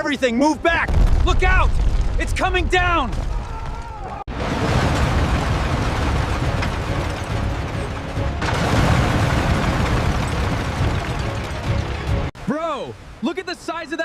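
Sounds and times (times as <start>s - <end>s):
building demolition rumble and crashing: 0.9s - 12.3s
debris falling: 0.9s - 12.3s.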